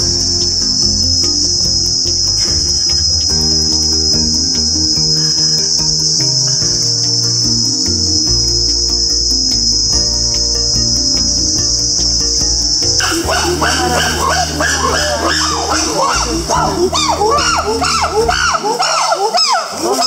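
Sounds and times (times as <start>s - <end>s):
forest insects droning: 0.0s - 20.0s
low melody of held notes: 0.0s - 20.0s.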